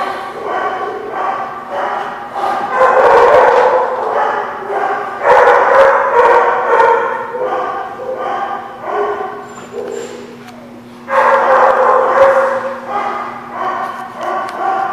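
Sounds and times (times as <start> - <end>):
dogs barking and yipping: 0.0 - 10.4, 11.1 - 14.9
dogs howling: 0.0 - 10.4, 11.1 - 14.9.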